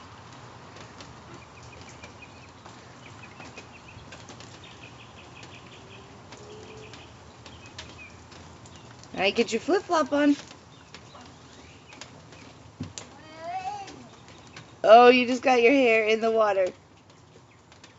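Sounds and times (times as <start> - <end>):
steady outdoor hiss: 0.0 - 17.9.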